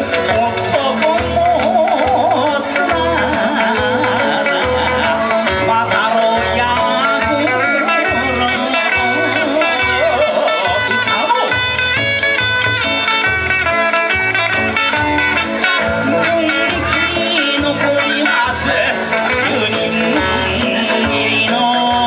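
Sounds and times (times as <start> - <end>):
guitar: 0.0 - 22.0.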